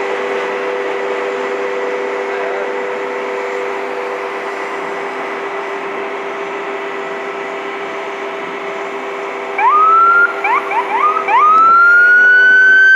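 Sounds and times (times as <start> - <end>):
freight train rolling: 0.0 - 12.4
emergency vehicle siren: 0.0 - 12.9.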